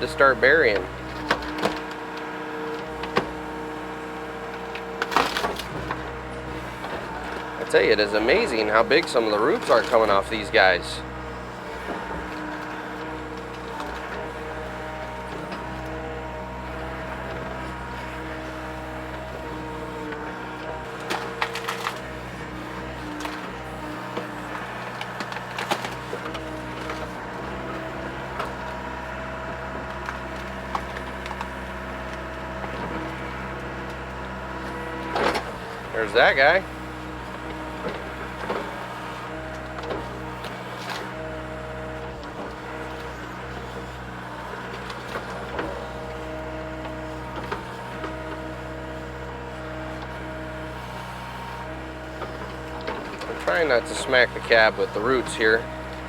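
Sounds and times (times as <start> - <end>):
diesel engine running: 0.0 - 56.0
hydraulics whining: 0.0 - 56.0.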